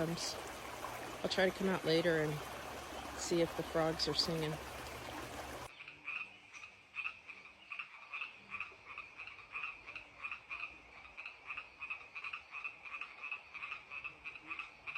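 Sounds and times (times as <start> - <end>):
frogs croaking: 0.0 - 14.9.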